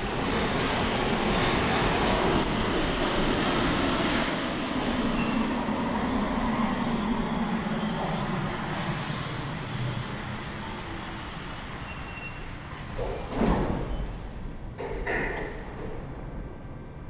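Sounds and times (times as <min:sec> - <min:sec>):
train rumble with motor tone: 0:00.0 - 0:17.0.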